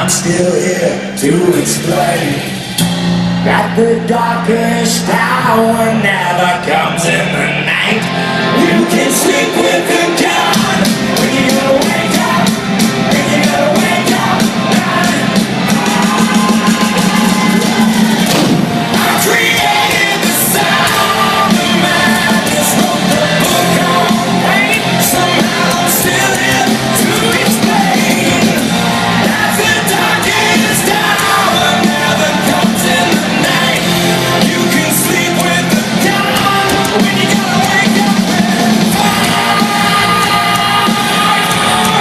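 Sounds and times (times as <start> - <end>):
rock band playing live: 0.0 - 42.0
sung and shouted lead vocal: 0.0 - 42.0.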